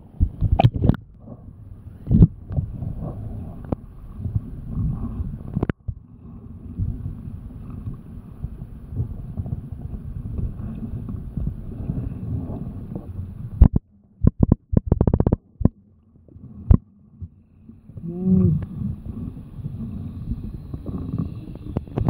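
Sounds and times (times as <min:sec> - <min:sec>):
muffled underwater water rumble: 0:00.0 - 0:22.0.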